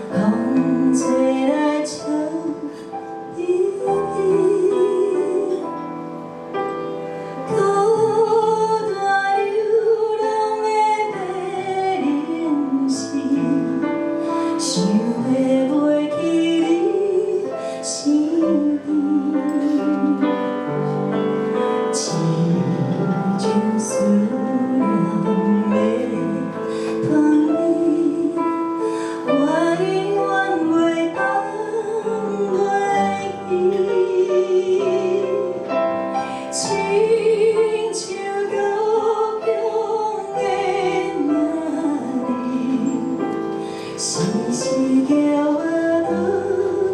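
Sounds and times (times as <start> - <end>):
woman singing: 0.0 - 6.0, 7.4 - 21.0, 21.6 - 46.9
piano accompaniment: 0.0 - 46.9.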